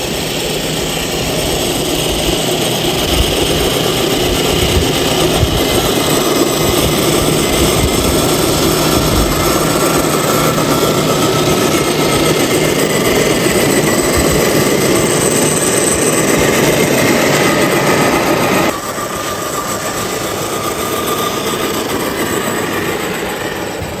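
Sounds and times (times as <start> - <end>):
toy car electric motor whining: 0.0 - 24.0.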